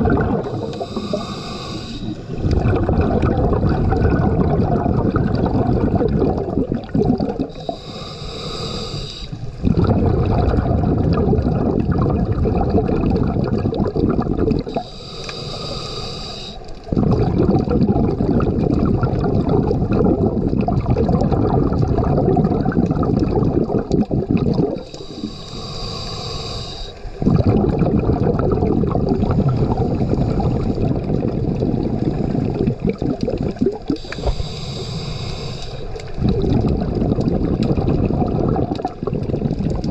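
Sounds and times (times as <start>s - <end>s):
underwater water churning rumble: 0.0s - 15.8s, 16.6s - 39.9s.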